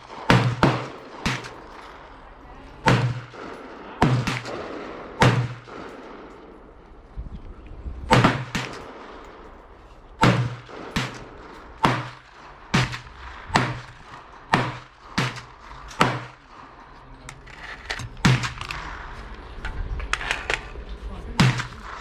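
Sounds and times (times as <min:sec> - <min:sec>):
gunshots with echo: 0:00.0 - 0:06.9, 0:08.0 - 0:22.0.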